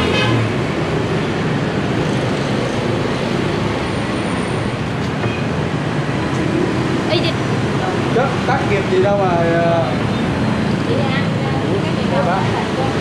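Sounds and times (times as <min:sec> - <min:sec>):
busy road traffic: 0:00.0 - 0:13.0.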